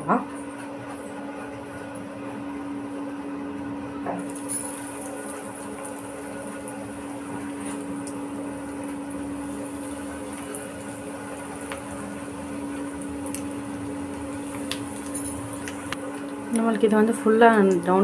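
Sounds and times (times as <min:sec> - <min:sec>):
oil sizzling and bubbling: 0:00.0 - 0:18.0
steady hum: 0:00.0 - 0:18.0.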